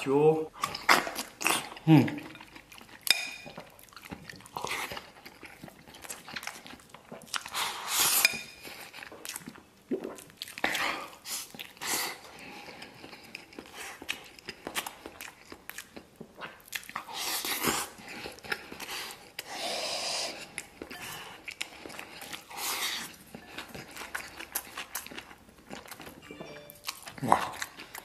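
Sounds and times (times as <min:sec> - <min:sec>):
man chewing: 0:00.5 - 0:28.0.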